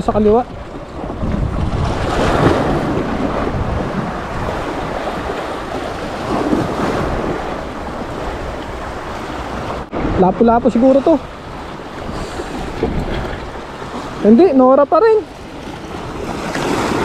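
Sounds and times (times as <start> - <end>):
sea waves washing in: 0.0 - 17.0
wind buffeting microphone: 0.0 - 17.0.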